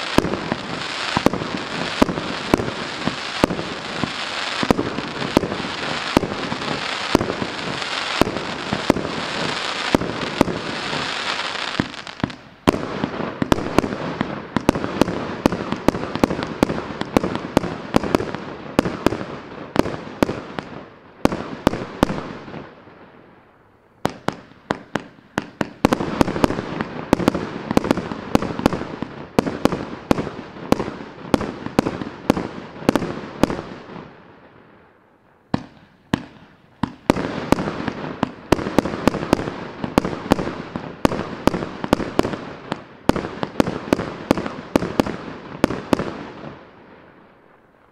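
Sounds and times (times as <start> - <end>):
fireworks bursts crackling: 0.0 - 22.8, 24.0 - 34.2, 35.5 - 46.7
fireworks shots firing: 0.0 - 22.8, 24.0 - 34.2, 35.5 - 46.6.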